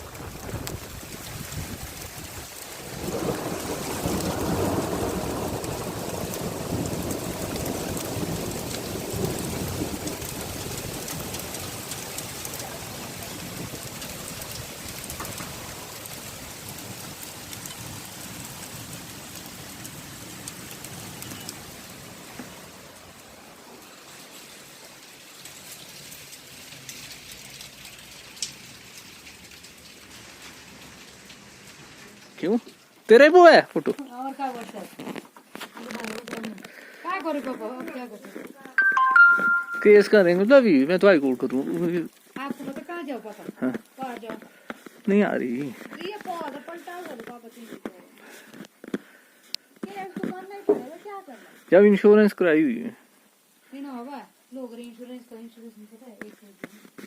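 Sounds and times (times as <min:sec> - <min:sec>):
hail falling: 0:00.0 - 0:57.0.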